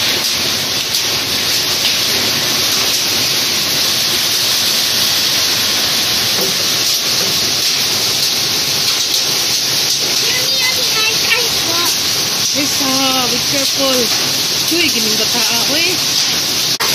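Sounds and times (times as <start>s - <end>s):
heavy rain and hail on concrete: 0.0s - 16.9s.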